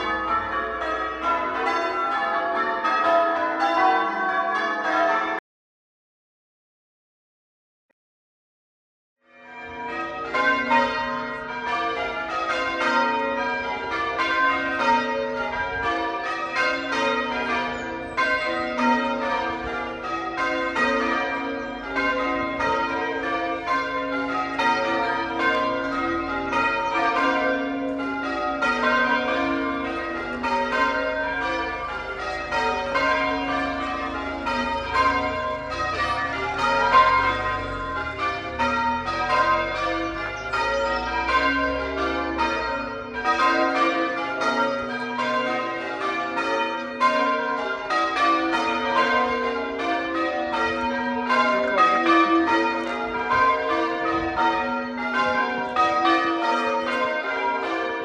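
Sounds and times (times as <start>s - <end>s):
church bells ringing: 0.0s - 5.4s, 9.3s - 58.0s.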